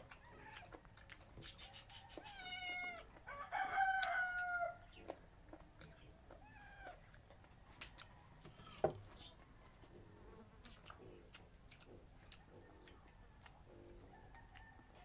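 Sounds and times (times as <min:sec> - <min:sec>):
chewing smacks: 0:00.0 - 0:03.3, 0:03.9 - 0:15.0
fingers picking at food on plates: 0:00.0 - 0:15.0.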